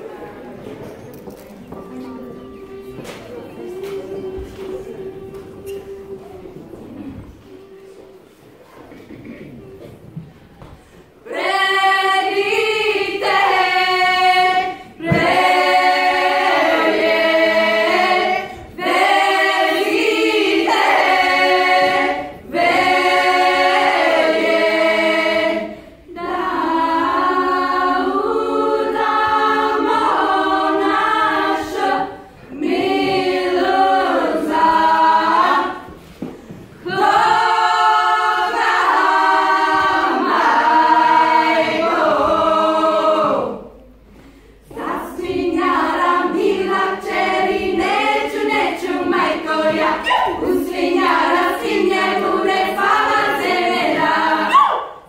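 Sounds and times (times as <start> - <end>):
women's choir singing a folk song: 1.6 - 55.0.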